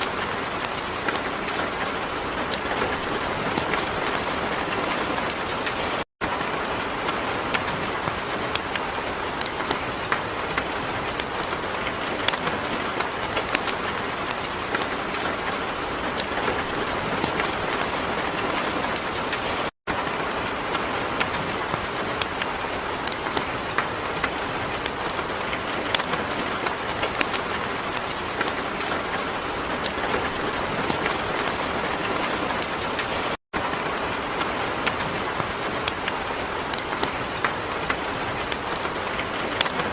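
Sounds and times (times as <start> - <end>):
heavy rain falling: 0.0 - 39.9
raindrop impacts: 0.0 - 39.9.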